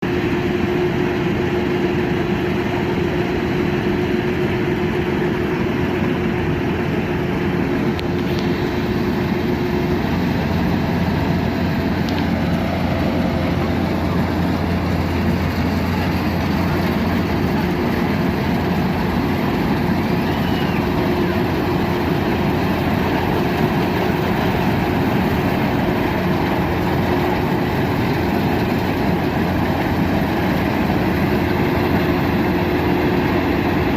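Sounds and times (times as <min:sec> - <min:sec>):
combine harvester engine humming: 0:00.0 - 0:33.9
steady machine whine: 0:00.0 - 0:33.9.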